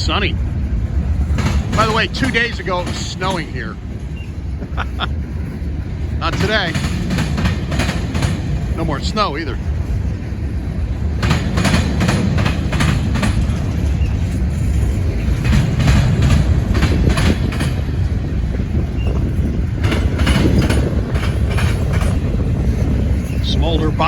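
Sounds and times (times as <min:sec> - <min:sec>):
rumble of train wheels on rail: 0:00.0 - 0:24.0
wheels clicking over rail joints: 0:00.0 - 0:24.0.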